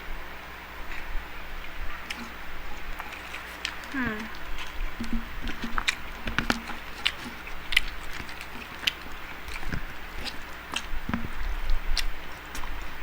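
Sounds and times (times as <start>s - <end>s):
chewing food with crunches: 0.8s - 13.0s
wet mouth sounds: 0.9s - 13.0s.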